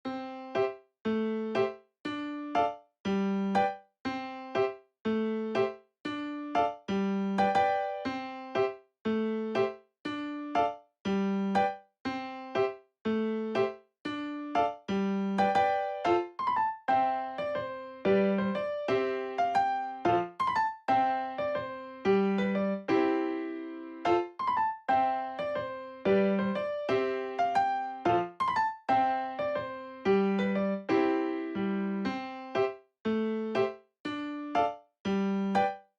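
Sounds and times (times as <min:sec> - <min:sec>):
light piano music: 0:00.0 - 0:35.9.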